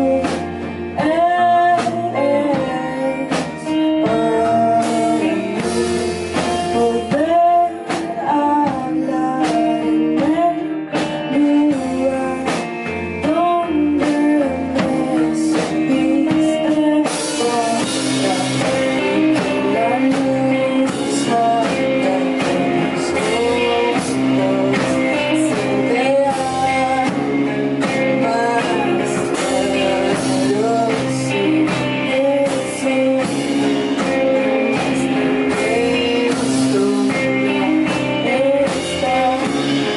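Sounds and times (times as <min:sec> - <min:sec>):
rock song with singing: 0:00.0 - 0:39.9.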